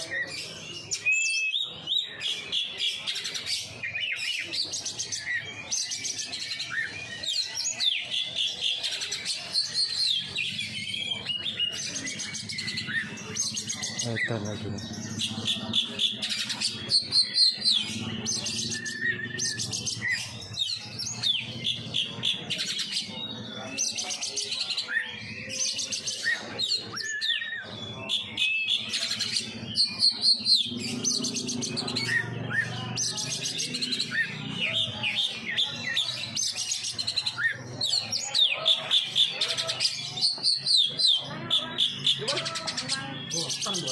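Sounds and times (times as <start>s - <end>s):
bird singing whistled song: 0.0s - 43.9s.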